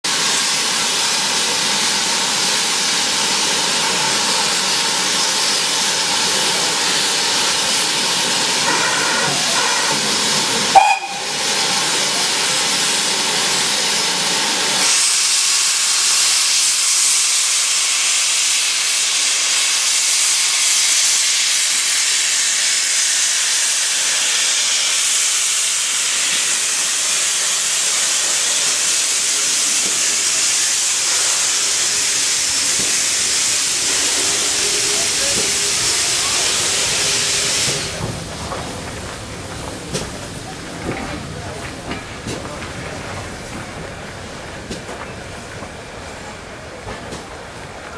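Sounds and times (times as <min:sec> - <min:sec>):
steam hissing from locomotive: 0:00.1 - 0:47.9.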